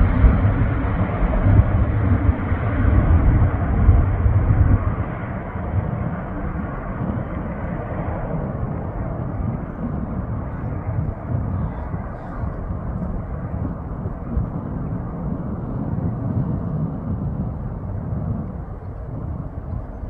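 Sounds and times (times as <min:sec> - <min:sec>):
jet airliner climbing rumble: 0:00.0 - 0:20.0.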